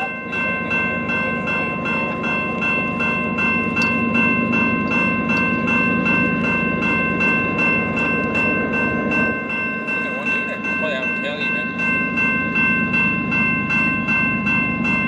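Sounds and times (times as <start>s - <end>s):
diesel freight train rumble: 0.0s - 15.0s
level-crossing bell ringing: 0.0s - 15.0s.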